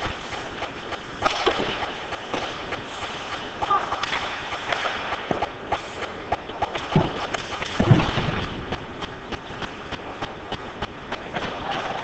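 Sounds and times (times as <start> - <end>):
skate blades scraping ice: 0.0 - 12.0
sticks and puck clacking: 0.0 - 12.0.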